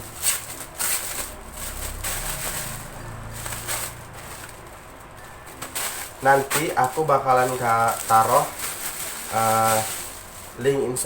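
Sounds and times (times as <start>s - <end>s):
packaging and fabric rustling: 0.0s - 11.0s.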